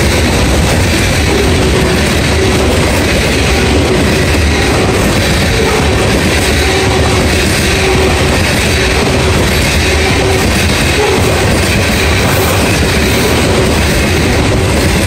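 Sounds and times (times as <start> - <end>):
freight train wheels rumbling: 0.0 - 15.0
wheels clacking over rail joints: 0.0 - 15.0.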